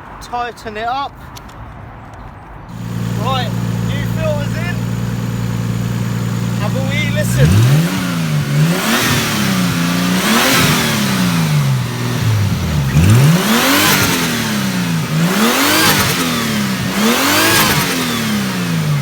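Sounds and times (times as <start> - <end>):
turbocharged car engine revving: 2.7 - 19.0.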